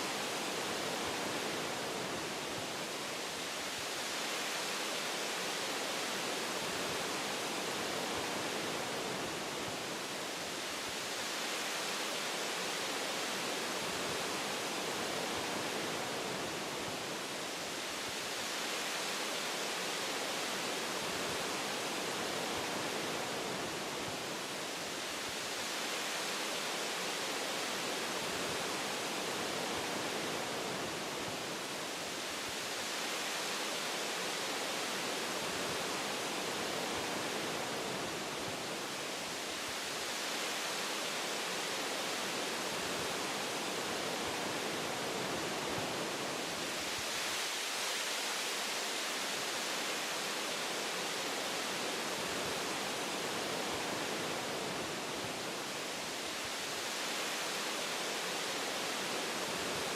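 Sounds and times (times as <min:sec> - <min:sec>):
wind through tree branches: 0:00.0 - 0:59.9.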